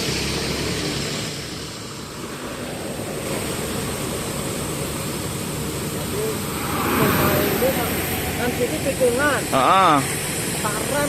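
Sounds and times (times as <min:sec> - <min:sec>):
road traffic rushing past: 0:00.0 - 0:11.0.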